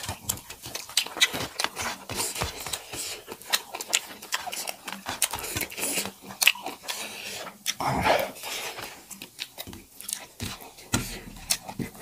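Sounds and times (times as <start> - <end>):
chewing: 0.0 - 12.0.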